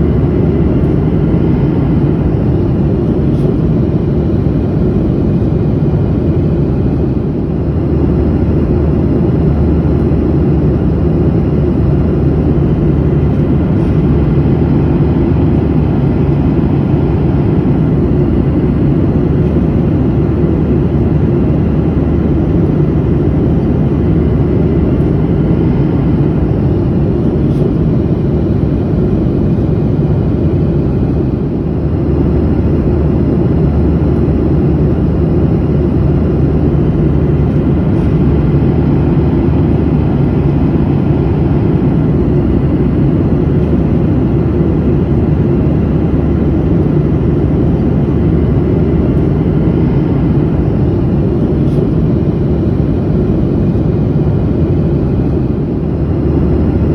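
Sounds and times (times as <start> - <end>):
airliner cabin drone: 0.0 - 56.9.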